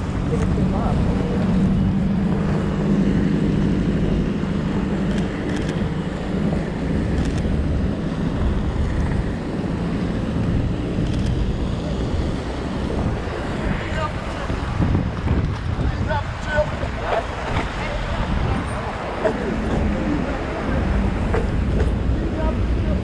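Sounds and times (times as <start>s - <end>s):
vehicle engine hum: 0.0s - 23.0s
wind noise on microphone: 0.0s - 23.0s.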